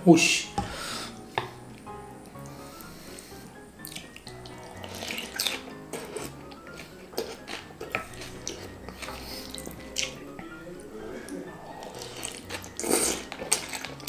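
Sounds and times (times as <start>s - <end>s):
background music: 0.0s - 14.0s
slurping noodles: 2.3s - 14.0s.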